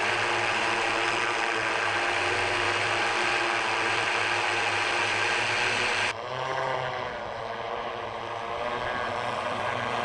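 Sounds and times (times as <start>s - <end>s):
multicopter propellers buzzing hum: 0.0s - 10.0s.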